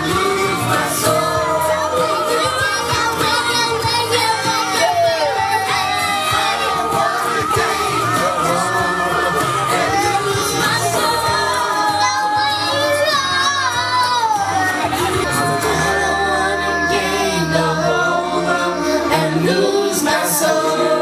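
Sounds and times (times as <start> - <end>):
pop song with sung vocals: 0.0 - 21.0.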